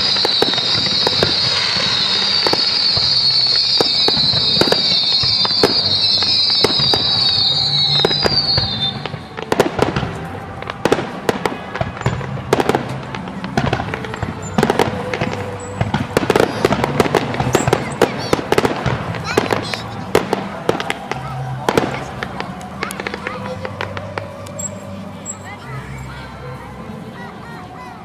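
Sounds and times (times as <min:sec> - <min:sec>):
fireworks cracks and bangs: 0:00.0 - 0:25.6
fireworks crackling and sizzling: 0:00.0 - 0:28.0.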